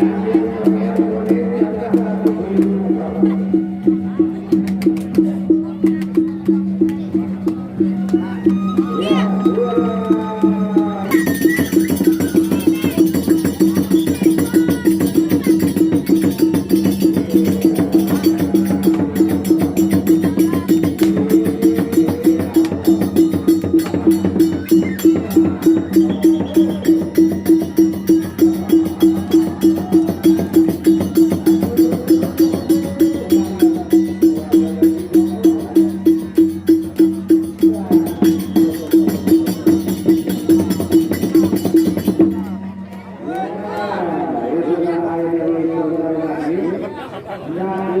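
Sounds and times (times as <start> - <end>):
pitched percussion beat: 0.0 - 43.2.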